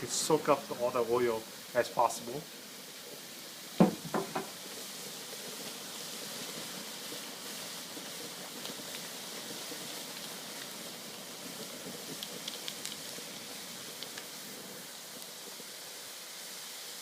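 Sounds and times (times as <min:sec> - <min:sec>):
noodles deep-frying in oil: 0:00.0 - 0:17.0.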